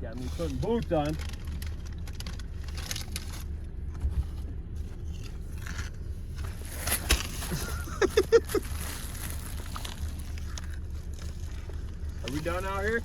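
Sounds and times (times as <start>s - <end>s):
handling rustling and scraping: 0.0s - 13.0s
steady low rumble: 0.0s - 13.0s.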